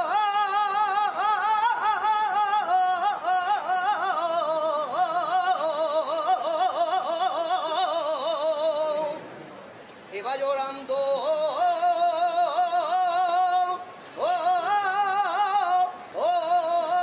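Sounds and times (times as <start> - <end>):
person singing solo: 0.0 - 9.5, 10.1 - 17.0.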